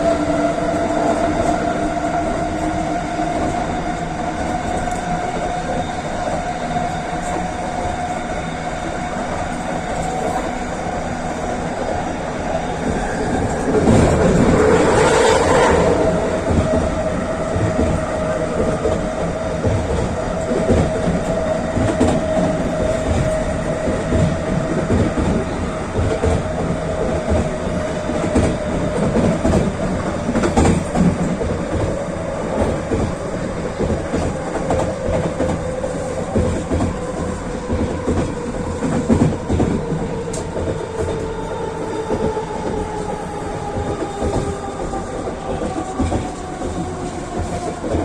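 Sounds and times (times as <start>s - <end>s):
wheels clacking on rail: 0.0s - 48.0s
wheels rumbling on rail: 0.0s - 48.0s.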